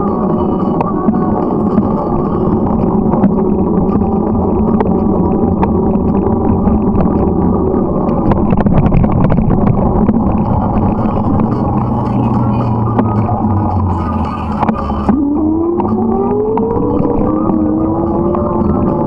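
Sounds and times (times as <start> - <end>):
engine drone: 0.0 - 19.0
road and wind rush: 0.0 - 19.0.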